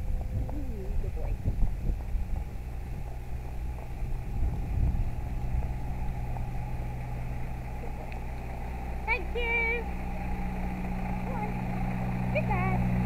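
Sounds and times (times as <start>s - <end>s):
lorry diesel engine running: 0.0s - 13.0s.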